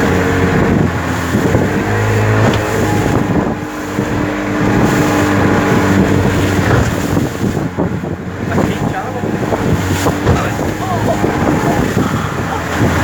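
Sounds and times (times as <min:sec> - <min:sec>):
boat motor running: 0:00.0 - 0:13.0
wind buffeting microphone: 0:00.0 - 0:13.0.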